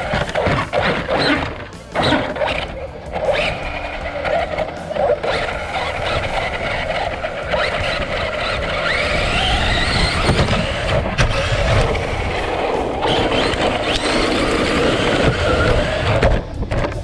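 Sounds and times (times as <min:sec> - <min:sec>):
electric toy car motor whining: 0:00.0 - 0:17.0
low rumble of tyres and wind: 0:00.0 - 0:17.0.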